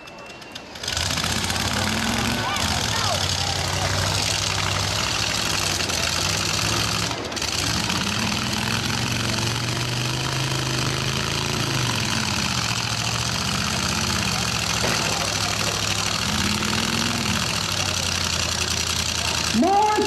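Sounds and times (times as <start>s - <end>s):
truck engines revving: 0.0s - 20.0s.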